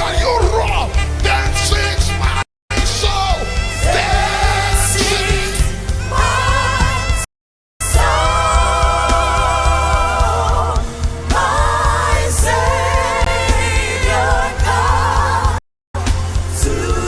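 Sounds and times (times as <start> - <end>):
band with steady bass beat: 0.0 - 7.2, 7.8 - 17.0.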